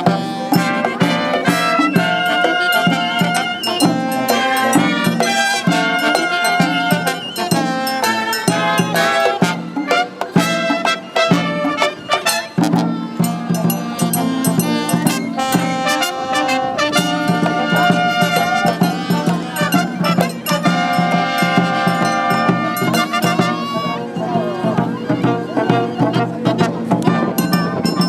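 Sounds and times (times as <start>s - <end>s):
brass band playing: 0.0s - 28.0s
sharp percussion strokes: 0.0s - 28.0s.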